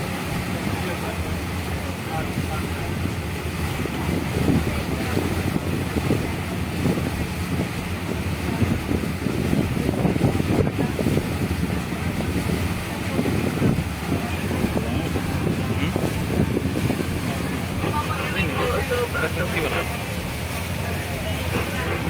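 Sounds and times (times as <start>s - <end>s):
boat diesel engine running: 0.0s - 22.0s
wind buffeting microphone: 0.0s - 22.0s.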